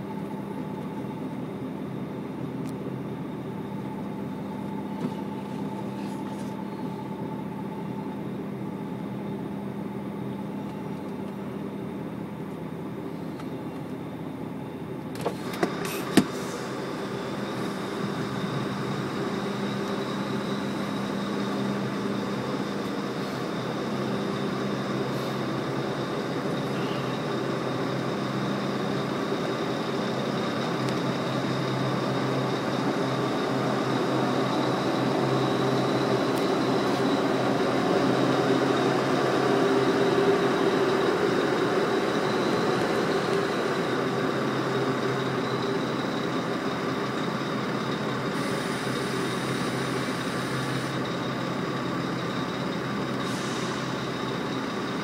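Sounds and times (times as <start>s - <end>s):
faint high whine: 0.0s - 55.0s
low machinery hum: 0.0s - 55.0s.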